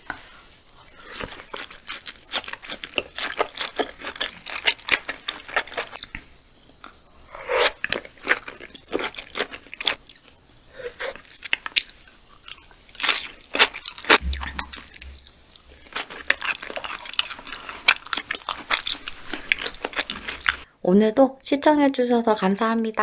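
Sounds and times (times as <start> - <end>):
close chewing: 0.8 - 20.7.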